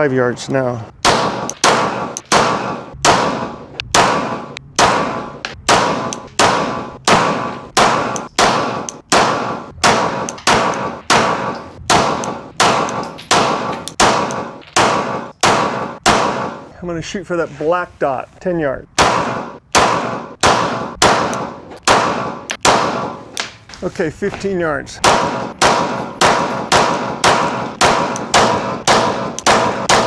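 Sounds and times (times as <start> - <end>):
pistol shots ringing: 1.0 - 16.7, 19.0 - 23.4, 25.0 - 30.0.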